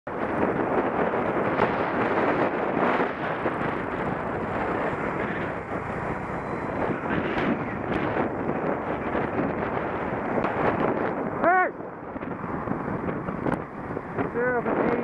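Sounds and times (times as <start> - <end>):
road traffic: 0.1 - 15.0
wind rush on microphone: 0.1 - 15.0.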